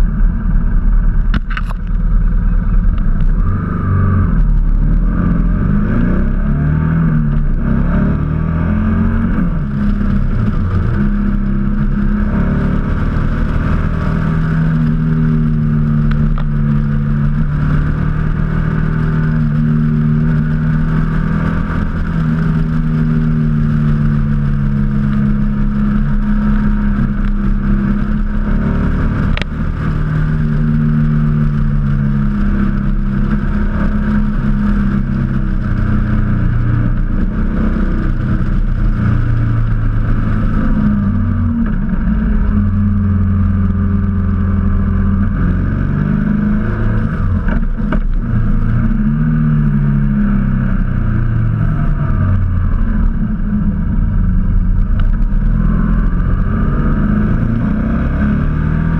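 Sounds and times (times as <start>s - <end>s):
motorcycle engine revving: 0.0s - 58.9s
wind and road noise: 0.0s - 58.9s.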